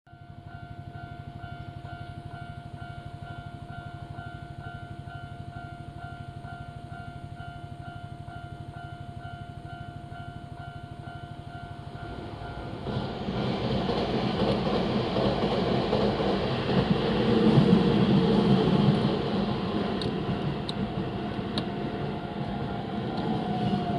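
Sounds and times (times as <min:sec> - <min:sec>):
train passing: 0:00.1 - 0:23.9.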